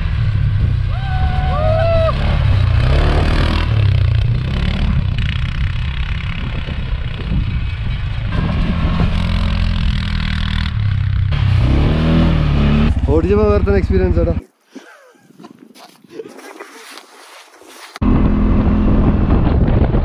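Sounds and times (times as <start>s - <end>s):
vehicle engine revving: 0.0s - 14.4s, 18.0s - 20.0s.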